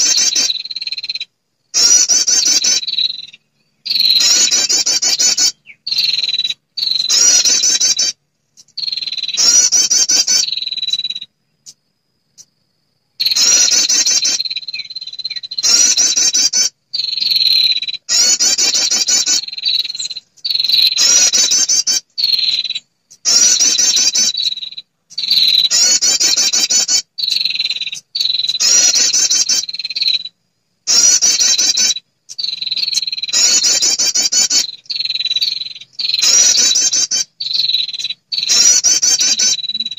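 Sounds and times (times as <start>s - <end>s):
bird buzzy trills: 0.0s - 12.5s, 13.2s - 39.9s.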